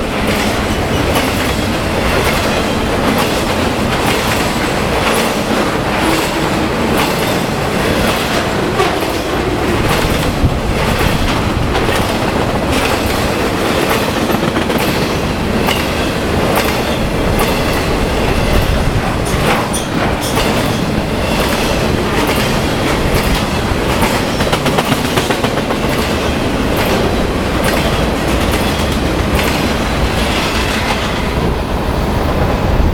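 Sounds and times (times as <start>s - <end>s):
freight train rolling past: 0.0s - 32.9s
wheels clickety-clack over rail joints: 0.0s - 32.9s.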